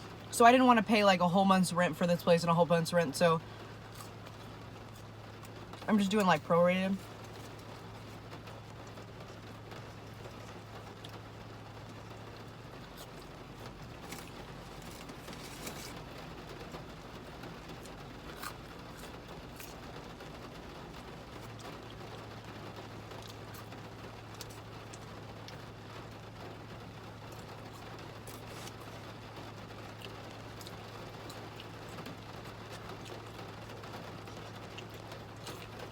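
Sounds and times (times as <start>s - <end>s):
rain pattering: 0.0s - 35.9s.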